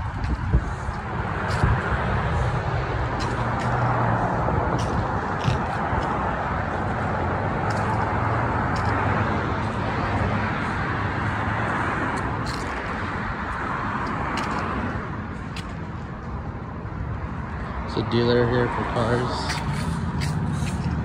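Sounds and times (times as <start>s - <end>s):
cars driving past: 0.0s - 21.0s.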